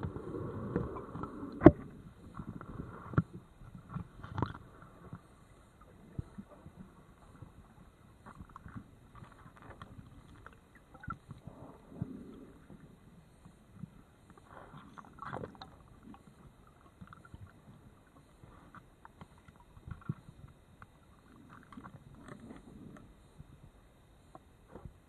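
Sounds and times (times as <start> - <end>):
underwater knocks and clicks: 0.0 - 23.1
muffled underwater noise: 0.0 - 25.0.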